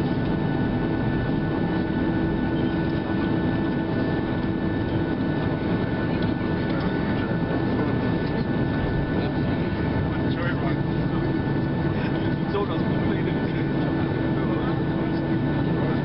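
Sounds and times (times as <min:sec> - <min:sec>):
airplane cabin engine rumble: 0:00.0 - 0:16.0
faint steady whining tones: 0:00.0 - 0:16.0.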